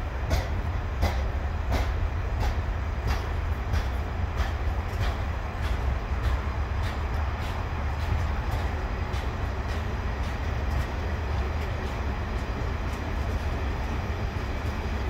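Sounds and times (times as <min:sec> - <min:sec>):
freight train rumbling past: 0:00.0 - 0:15.0
train wheel clicks: 0:00.2 - 0:15.0.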